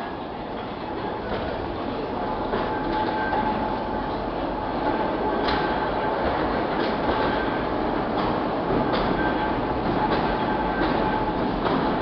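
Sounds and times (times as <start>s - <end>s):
train rolling rumble in tunnel: 0.0s - 12.0s.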